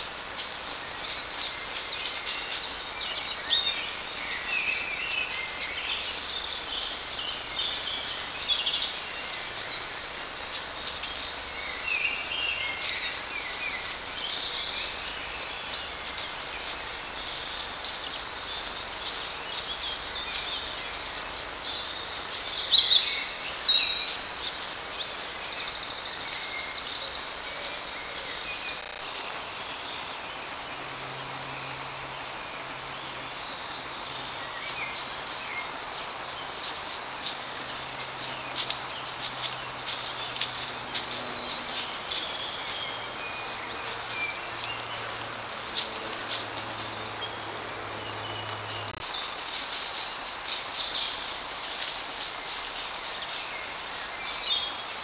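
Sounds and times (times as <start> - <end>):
birds singing and chirping: 0.0 - 55.0
steady microphone hiss: 0.0 - 55.0.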